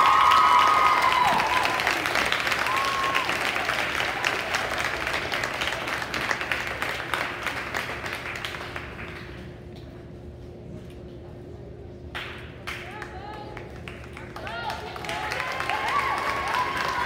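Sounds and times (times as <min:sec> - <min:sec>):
audience clapping: 0:00.0 - 0:09.9, 0:12.1 - 0:17.0.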